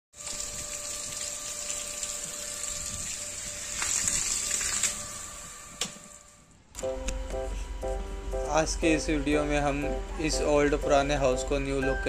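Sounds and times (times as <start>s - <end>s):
faint steady hum: 0.3s - 12.0s.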